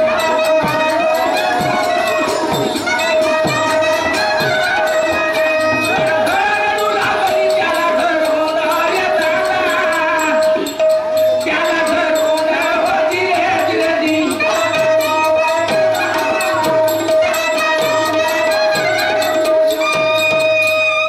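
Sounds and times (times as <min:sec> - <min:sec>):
man singing: 0:00.0 - 0:19.6.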